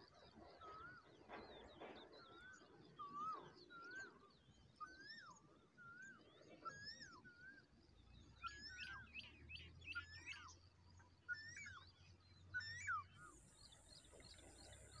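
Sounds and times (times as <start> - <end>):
birds chirping: 0.0 - 15.0
birds whistling: 0.4 - 15.0.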